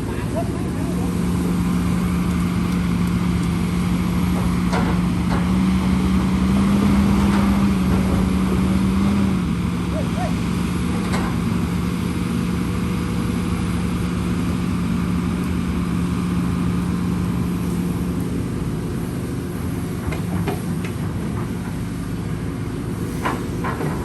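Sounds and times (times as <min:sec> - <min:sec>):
heavy machine engine humming: 0:00.0 - 0:24.0.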